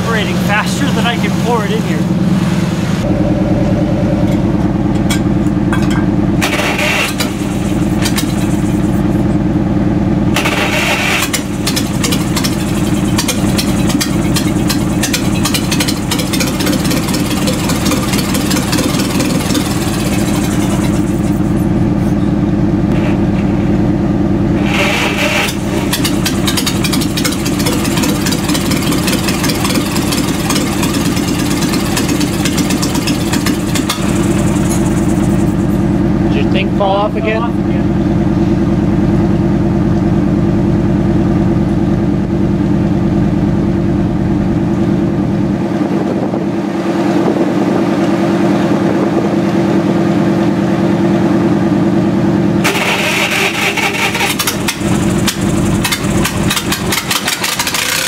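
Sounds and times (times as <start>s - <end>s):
air-cooled engine running: 0.0s - 58.0s.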